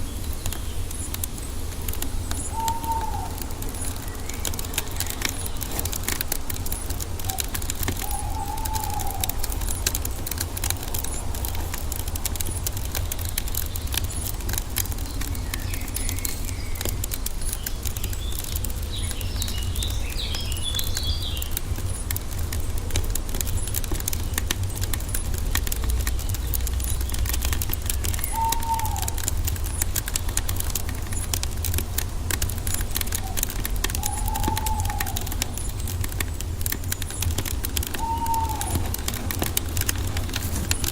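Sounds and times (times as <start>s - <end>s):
birdsong: 0.0s - 40.9s
log fire crackling: 0.0s - 40.9s.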